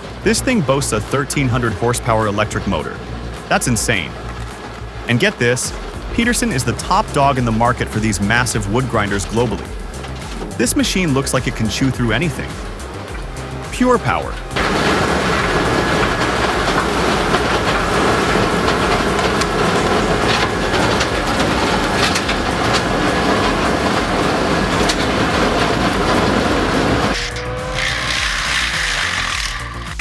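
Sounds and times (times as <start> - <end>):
machine whine: 0.0 - 30.0
wood grinder grinding wood: 0.0 - 30.0.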